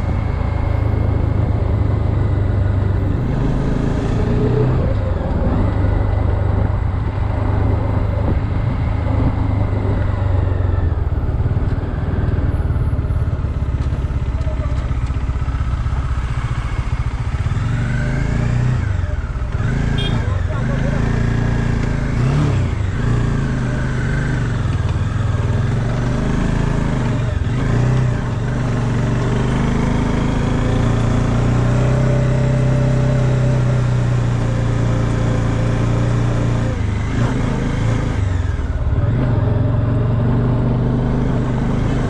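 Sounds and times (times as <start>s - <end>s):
motorcycle engine under way: 0.0s - 42.0s.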